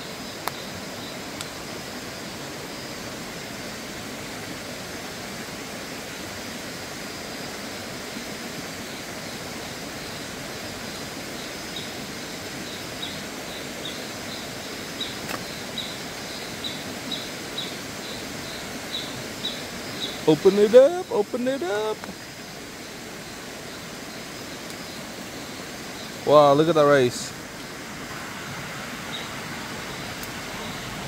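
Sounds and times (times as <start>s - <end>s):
even outdoor hiss: 0.0s - 31.0s.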